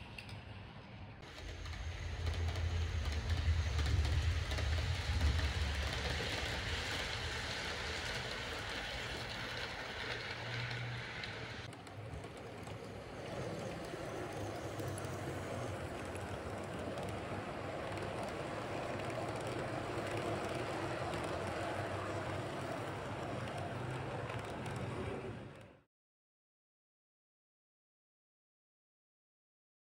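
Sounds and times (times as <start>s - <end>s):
model train motor hum: 1.2s - 25.8s
model train wheels rolling: 1.2s - 25.8s.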